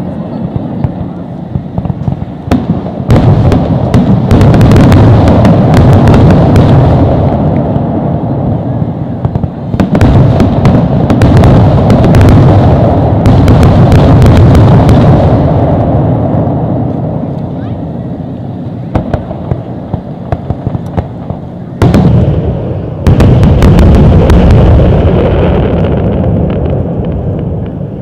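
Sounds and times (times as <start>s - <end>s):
fireworks bursting and crackling: 0.0s - 28.0s.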